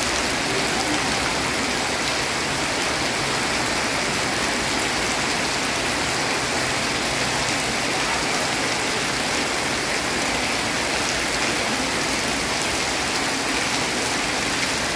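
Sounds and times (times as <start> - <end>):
heavy rain on pavement: 0.0 - 14.9
rainwater splashing from a roof: 0.0 - 14.9.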